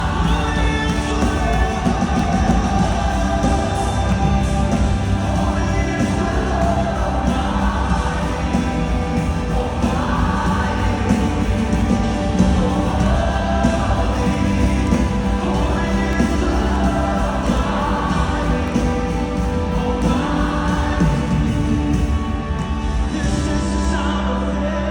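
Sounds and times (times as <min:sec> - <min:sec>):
band playing worship music: 0:00.0 - 0:24.9
many voices singing: 0:00.0 - 0:24.9.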